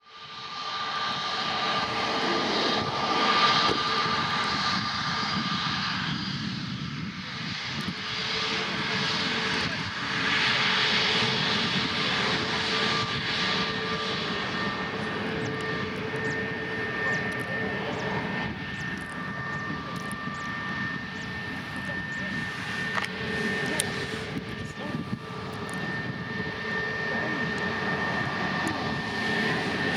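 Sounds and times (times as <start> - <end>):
jet engines running: 0.2 - 29.9
high engine whine: 0.4 - 29.9.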